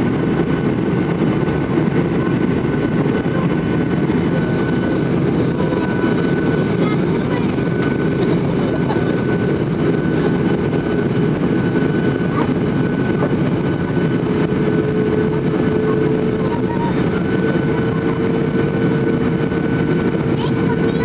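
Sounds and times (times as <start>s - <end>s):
airflow and engine roar: 0.0s - 21.0s.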